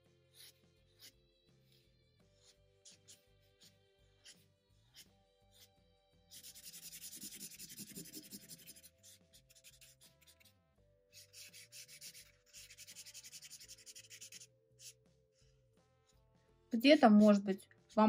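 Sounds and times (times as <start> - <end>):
marker rubbing on paper: 0.3 - 15.0, 16.8 - 18.0.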